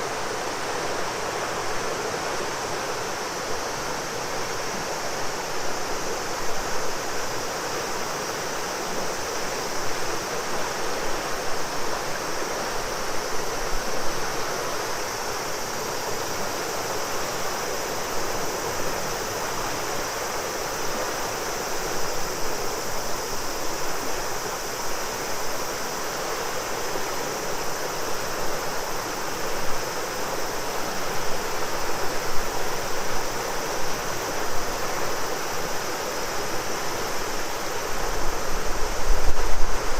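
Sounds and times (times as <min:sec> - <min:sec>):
cicadas droning: 0:00.0 - 0:39.9
river water flowing: 0:00.0 - 0:39.9.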